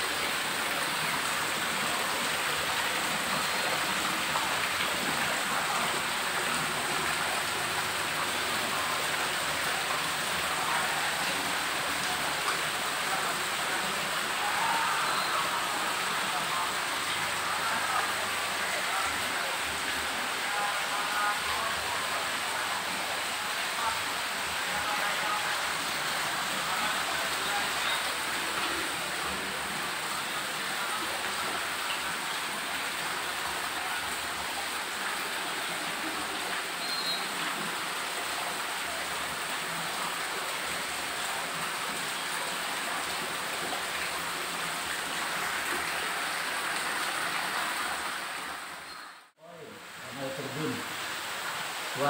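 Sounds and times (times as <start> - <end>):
waterfall pouring into a pond: 0.0 - 52.0.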